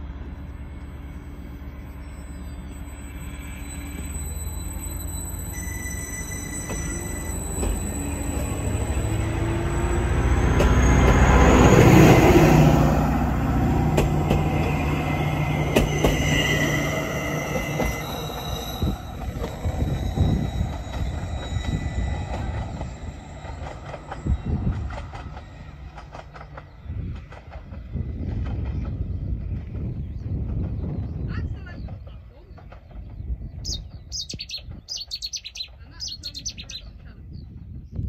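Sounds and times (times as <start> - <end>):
train wheels whining: 0.0 - 35.6
train engine rumbling: 0.0 - 38.0.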